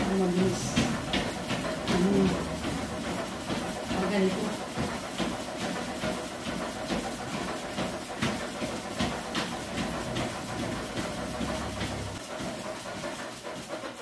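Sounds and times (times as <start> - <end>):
footsteps on treadmill belt: 0.0 - 14.0
treadmill belt rumbling: 0.0 - 14.0.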